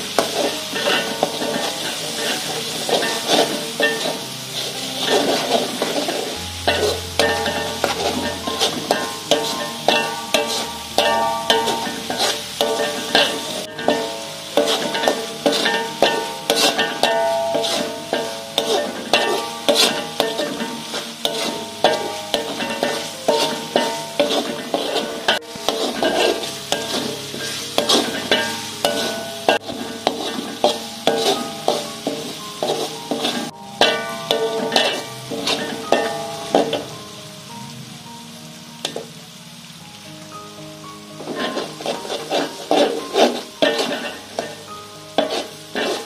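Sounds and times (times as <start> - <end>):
metal spatula scraping a wok: 0.0 - 37.0, 41.0 - 46.0
paste sizzling in oil: 0.0 - 46.0.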